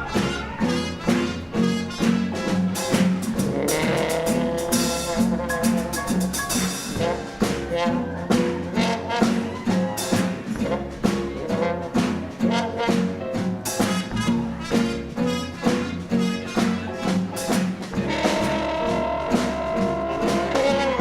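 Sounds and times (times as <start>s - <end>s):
drum kit beat: 0.0s - 21.0s
jazz band brass horns: 0.0s - 21.0s.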